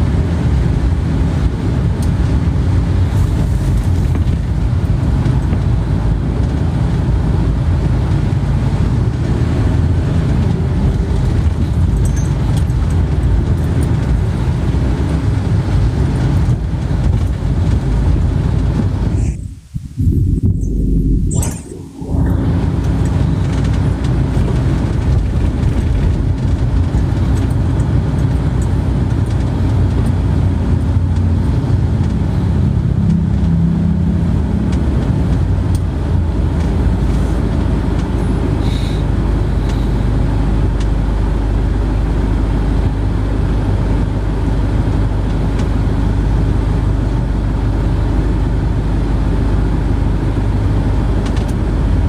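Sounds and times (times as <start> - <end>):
motor vehicle engine hum: 0.0 - 52.0
road noise: 0.0 - 52.0.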